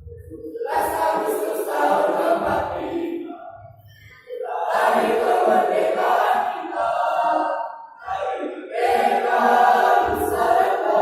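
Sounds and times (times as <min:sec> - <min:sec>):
choir singing: 0:00.3 - 0:03.5, 0:04.3 - 0:11.0.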